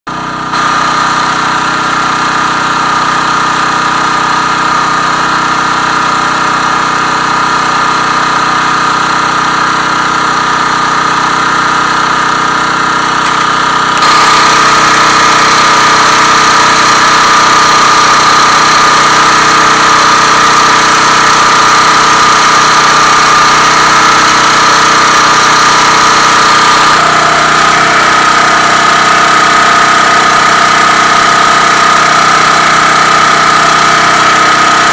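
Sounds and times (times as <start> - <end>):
generator engine running: 0.1 - 34.9.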